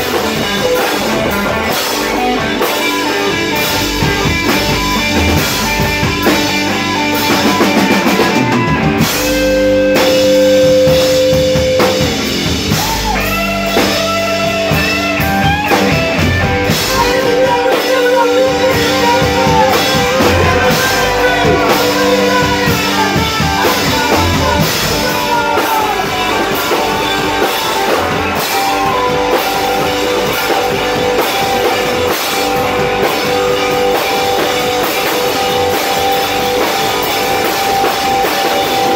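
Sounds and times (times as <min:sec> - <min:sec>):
bending lead guitar notes: 0:00.0 - 0:38.9
live rock band playing loud: 0:00.0 - 0:38.9.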